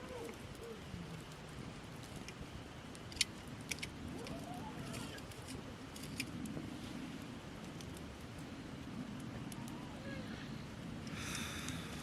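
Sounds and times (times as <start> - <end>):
campfire crackling: 0.0 - 12.0
fire popping: 0.0 - 12.0.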